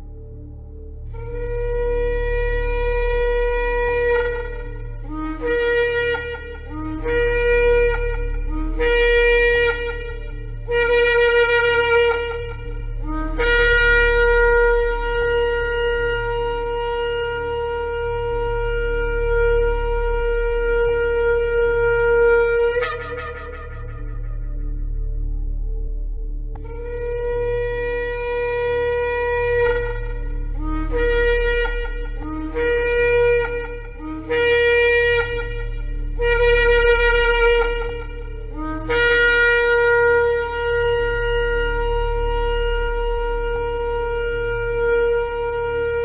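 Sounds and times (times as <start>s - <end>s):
shofar blasts: 0.0s - 25.8s, 26.5s - 46.0s
low steady drone: 0.0s - 46.0s.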